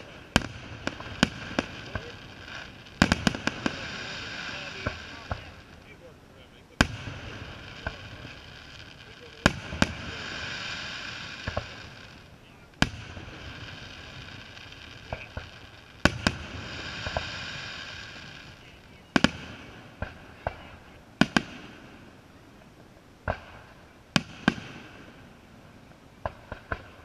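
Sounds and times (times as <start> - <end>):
firework shells bursting: 0.0 - 6.0, 6.8 - 22.1, 26.2 - 27.0.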